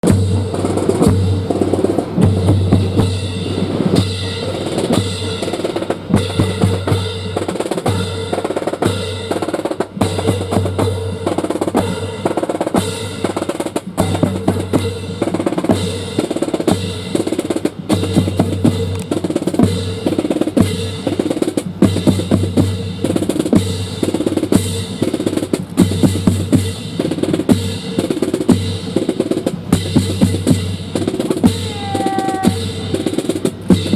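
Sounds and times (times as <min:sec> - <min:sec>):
marching drum music: 0:00.0 - 0:33.9.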